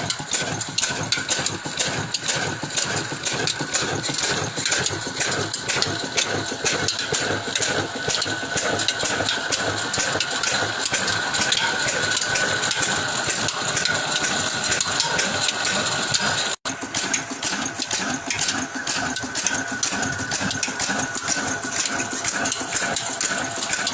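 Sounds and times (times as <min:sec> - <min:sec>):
engine clattering: 0:00.0 - 0:23.9.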